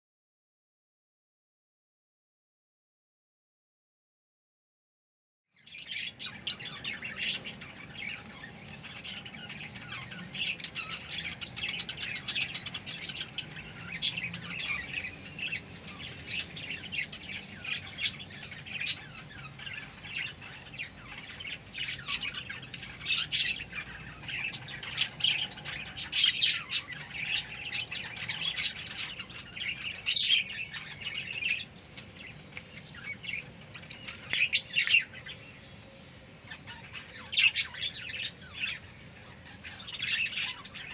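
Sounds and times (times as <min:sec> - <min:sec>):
budgerigars chirping: 0:05.7 - 0:35.5, 0:36.5 - 0:40.9.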